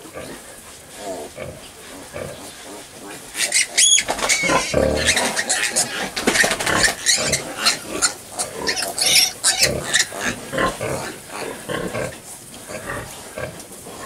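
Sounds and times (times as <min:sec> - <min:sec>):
piglets grunting and squealing: 0:00.0 - 0:14.0.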